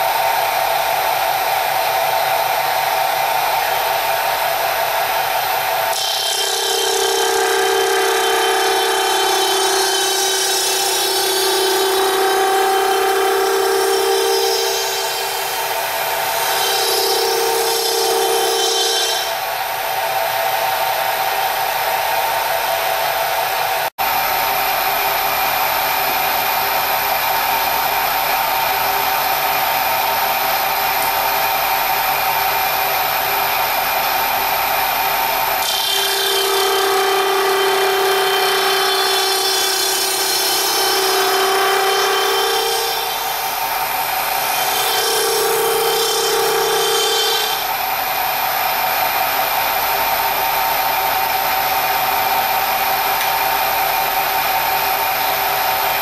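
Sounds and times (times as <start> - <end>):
milling machine spindle running: 2.1 - 19.7, 24.0 - 56.0
high cutting whine: 3.9 - 19.6, 24.0 - 56.0.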